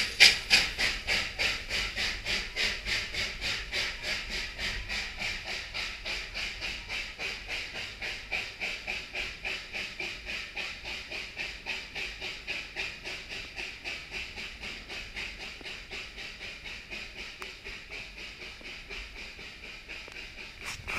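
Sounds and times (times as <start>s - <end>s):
steam locomotive chuffing: 0.0s - 20.9s.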